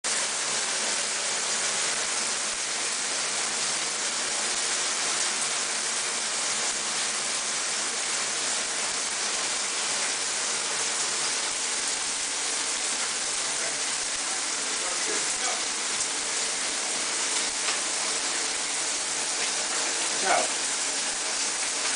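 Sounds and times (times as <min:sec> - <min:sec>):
shower water splashing: 0:00.1 - 0:21.9.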